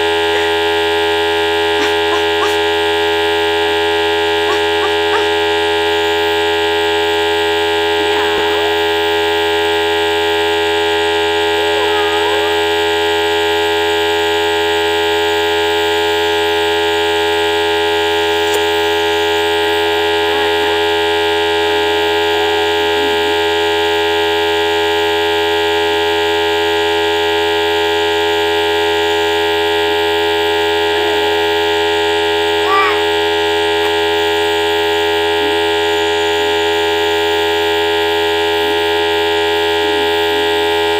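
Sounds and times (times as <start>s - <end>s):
compressor nebulizer humming: 0.0s - 40.9s.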